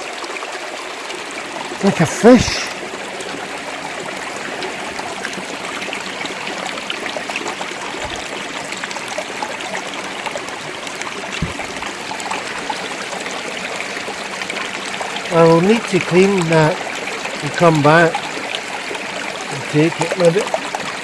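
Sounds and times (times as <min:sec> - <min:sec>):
stream trickling over rocks: 0:00.0 - 0:21.0.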